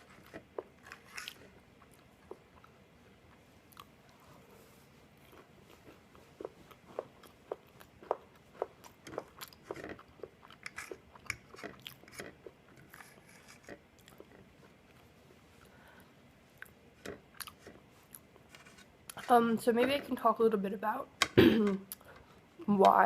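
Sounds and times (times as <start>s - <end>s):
chewing crunchy waffle: 0.0s - 15.8s, 16.5s - 19.3s.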